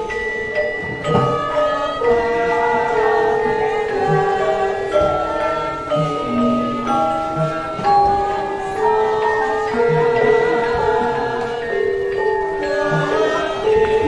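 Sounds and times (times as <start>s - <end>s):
metallophones ringing: 0.0s - 14.0s.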